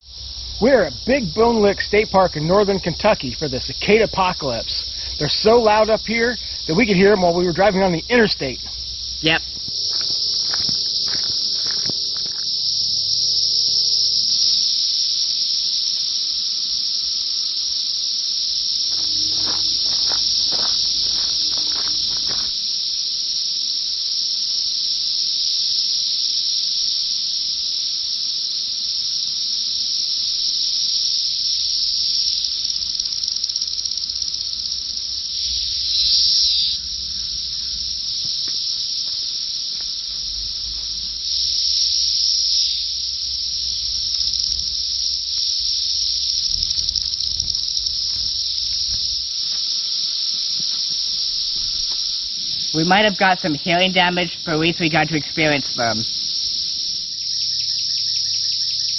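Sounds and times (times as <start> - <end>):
cicadas droning: 0.0 - 58.9.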